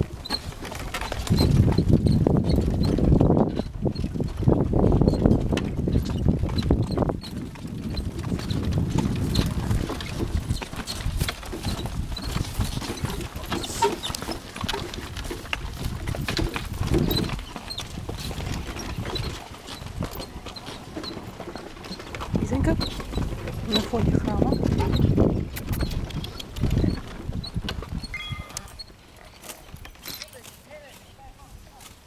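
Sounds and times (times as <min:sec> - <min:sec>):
horse hooves clopping on dirt: 0:00.0 - 0:32.0.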